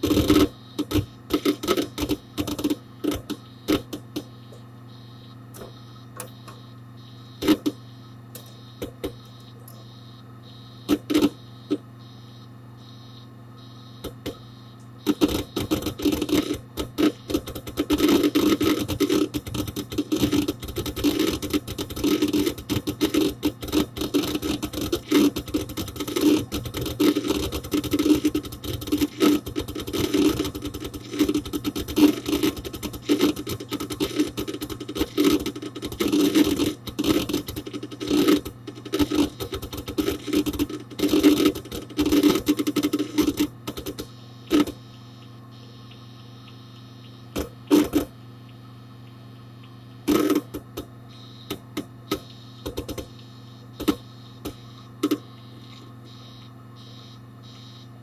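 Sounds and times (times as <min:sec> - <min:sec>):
hard disk clicking: 0:00.0 - 0:12.2, 0:13.9 - 0:57.0
computer hum: 0:00.0 - 0:58.0.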